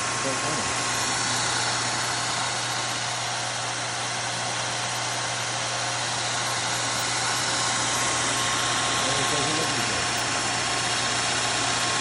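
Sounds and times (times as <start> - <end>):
electric motor humming: 0.0 - 12.0
sanding belt whirring: 0.0 - 12.0.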